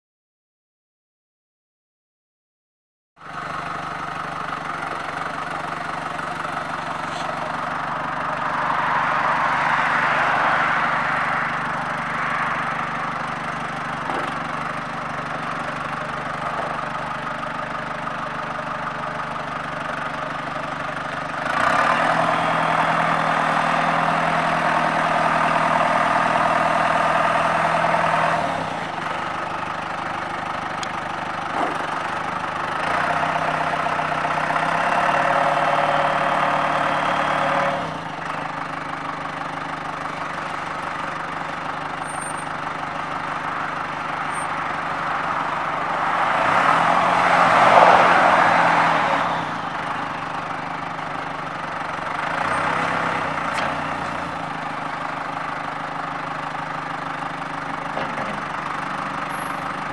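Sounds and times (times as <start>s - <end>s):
tractor diesel engine running: 3.2s - 59.9s.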